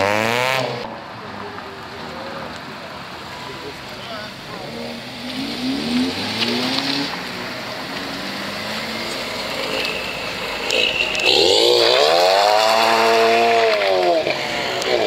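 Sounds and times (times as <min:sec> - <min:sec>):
background traffic noise: 0:00.0 - 0:15.0
car engine revving: 0:00.0 - 0:15.0.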